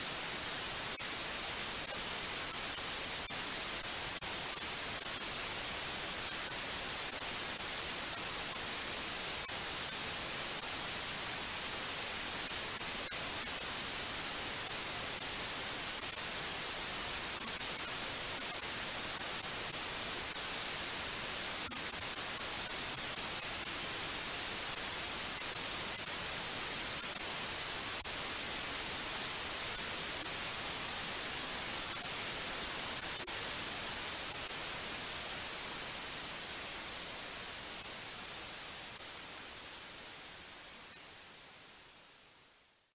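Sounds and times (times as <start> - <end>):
white noise hiss: 0.0 - 42.9.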